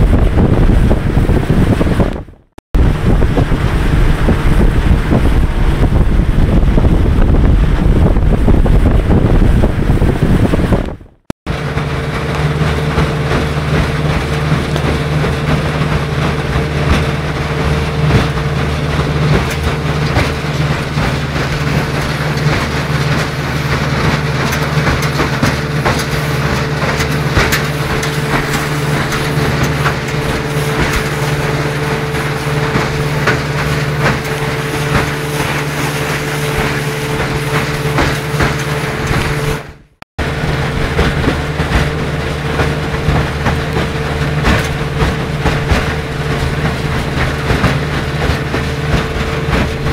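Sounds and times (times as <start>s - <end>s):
outboard motor running: 0.0s - 49.9s
water rushing past boat: 0.0s - 49.9s
wind on microphone: 0.0s - 49.9s.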